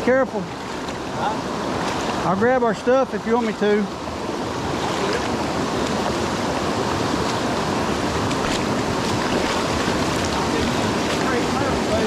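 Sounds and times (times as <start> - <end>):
fast water rushing: 0.0 - 12.0.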